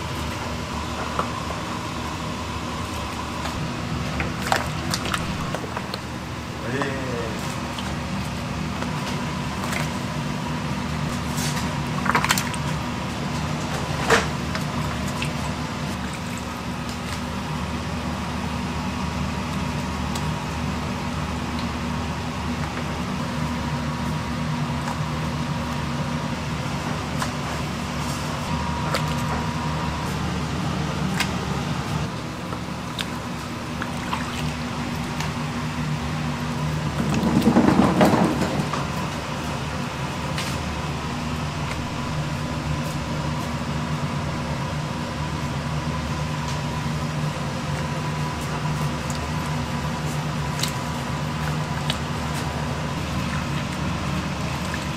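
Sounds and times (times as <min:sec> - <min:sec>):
liquid sounds: 0:00.0 - 0:54.9
low mechanical hum: 0:00.0 - 0:54.9.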